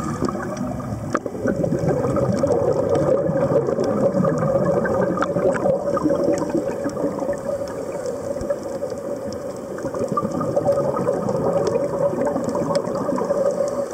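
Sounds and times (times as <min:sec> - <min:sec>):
bubbling crackling water: 0:00.0 - 0:13.9.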